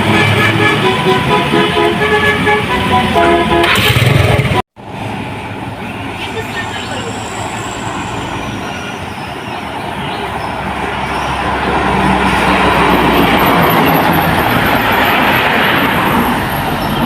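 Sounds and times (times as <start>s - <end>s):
bus driving past: 0.0s - 17.0s.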